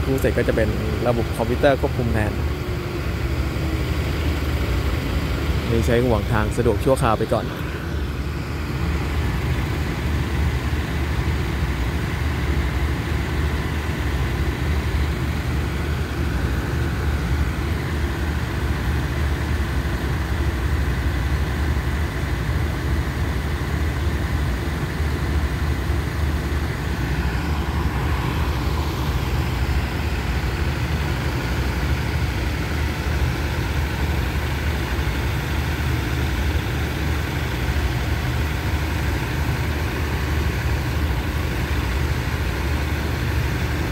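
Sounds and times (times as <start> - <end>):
diesel train engines idling: 0.0 - 43.9.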